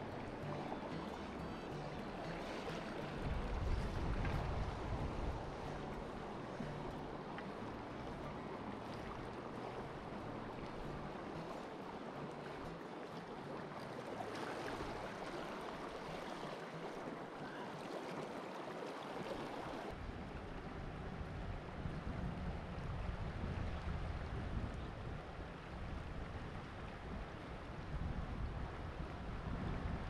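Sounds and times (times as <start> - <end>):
river flowing: 0.0 - 30.0.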